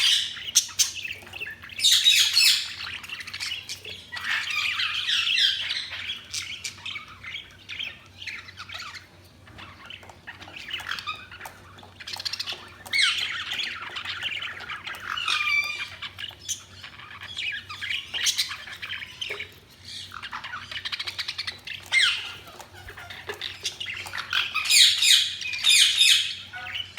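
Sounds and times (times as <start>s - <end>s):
budgies chirping and warbling: 0.0s - 26.9s.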